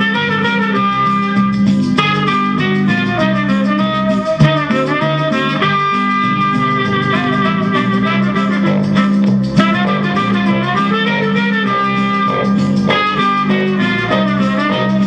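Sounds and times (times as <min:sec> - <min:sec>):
instrumental music from vinyl record: 0:00.0 - 0:15.0.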